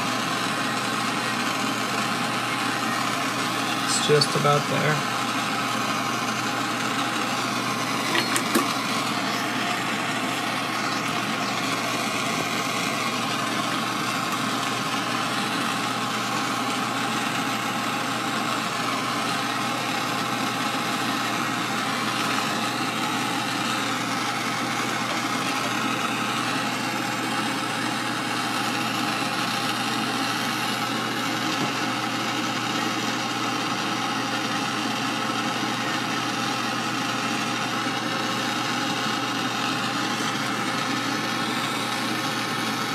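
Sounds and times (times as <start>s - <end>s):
torch flame hissing: 0.0s - 42.9s.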